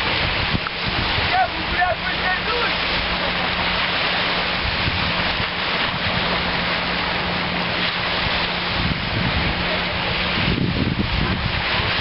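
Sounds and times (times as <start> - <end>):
small waves washing onto beach: 0.0 - 12.0
wind on microphone: 0.0 - 12.0.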